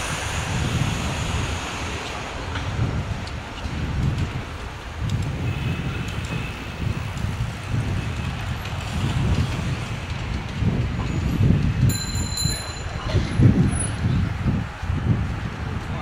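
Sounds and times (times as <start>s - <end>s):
low rumble of passing vehicles: 0.0s - 16.0s.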